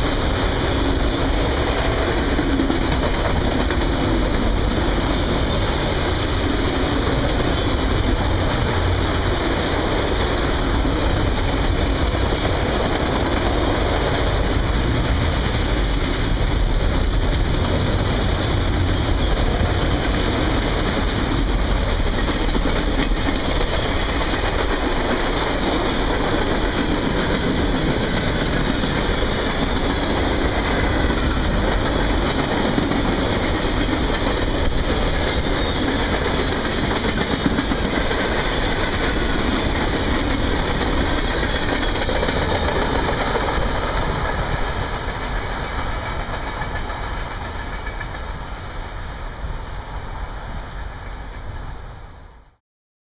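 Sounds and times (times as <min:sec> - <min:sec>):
freight train wheels rolling on rails: 0:00.0 - 0:52.6.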